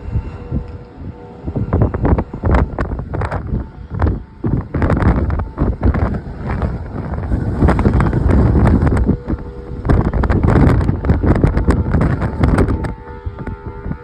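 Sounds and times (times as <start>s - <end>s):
distant tornado warning siren: 0.0s - 14.0s
wind buffeting microphone: 0.0s - 14.0s.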